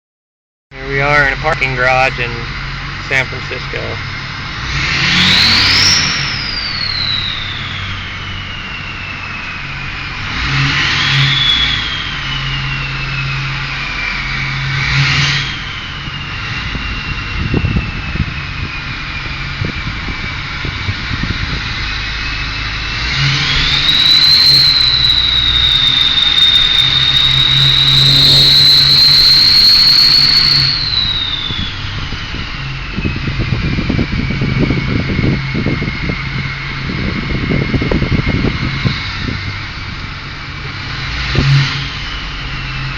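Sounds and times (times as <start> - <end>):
diesel engine revving: 0.7 - 42.9
turbocharger whistling: 0.8 - 42.9.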